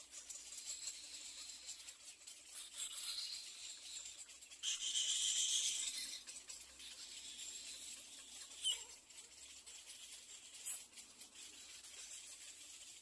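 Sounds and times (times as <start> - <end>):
chicks squeaky begging calls: 0.0 - 13.0
faint steady high hiss: 0.0 - 13.0.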